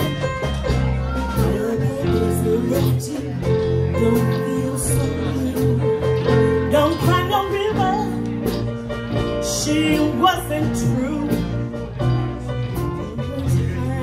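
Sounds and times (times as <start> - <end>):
live blues band playing: 0.0 - 14.0
woman singing: 0.7 - 12.2, 12.9 - 14.0.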